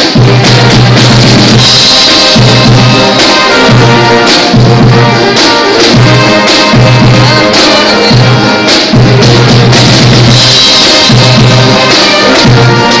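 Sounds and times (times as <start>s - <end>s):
brass holding low notes: 0.0s - 13.0s
steady drum beat: 0.0s - 13.0s.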